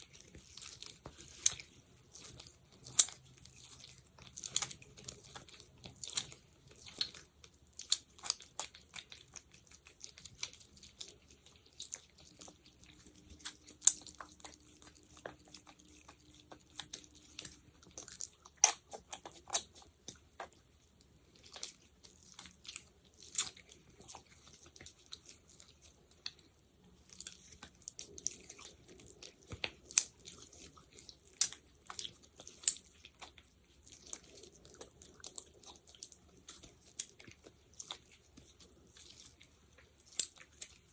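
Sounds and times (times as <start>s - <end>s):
sticky gel clicking and crackling: 0.0s - 40.9s.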